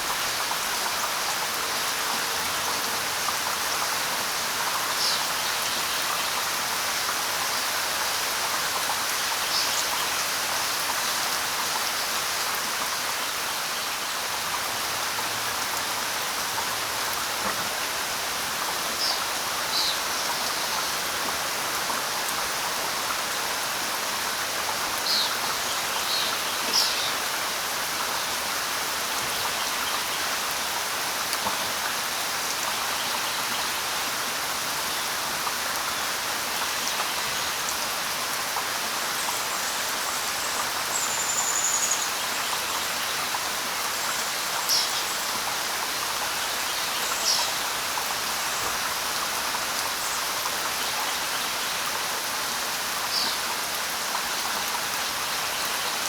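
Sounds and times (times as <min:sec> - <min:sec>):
light rain on leaves: 0:00.0 - 0:56.0.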